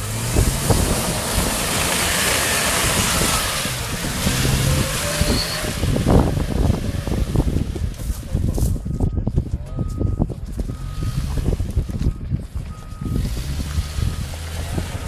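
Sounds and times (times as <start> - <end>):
car engine running: 0.0 - 15.0
wind noise on microphone: 0.0 - 15.0.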